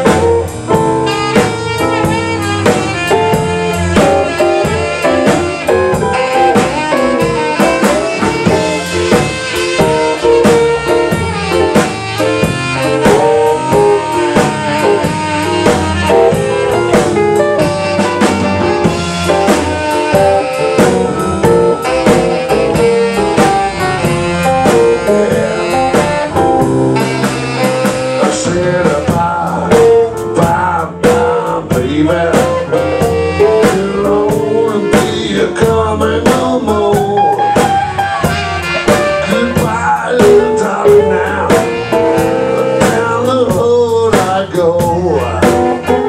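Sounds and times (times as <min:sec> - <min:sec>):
saxophone playing: 0:00.0 - 0:43.8, 0:44.6 - 0:46.0
drum kit beat: 0:00.0 - 0:46.0
electric bass guitar: 0:00.0 - 0:46.0.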